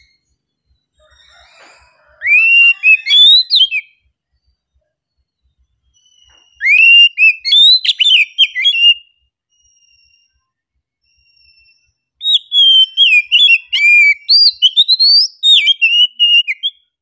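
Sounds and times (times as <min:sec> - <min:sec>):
bird singing whistled notes: 0:00.0 - 0:17.0.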